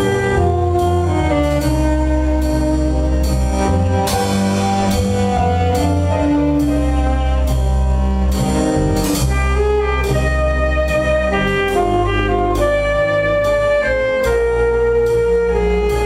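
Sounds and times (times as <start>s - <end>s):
held bass line: 0.0s - 16.0s
sustained melody: 0.0s - 16.0s.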